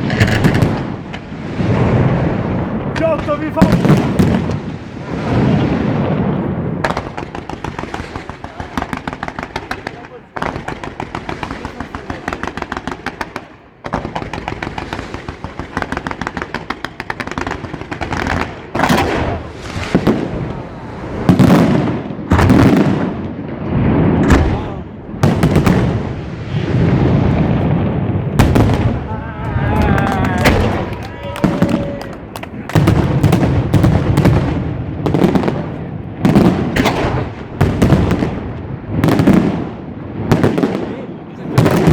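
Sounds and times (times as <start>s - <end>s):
heavy firework bursts echoing: 0.0s - 41.9s
small firework cracks: 0.0s - 41.9s.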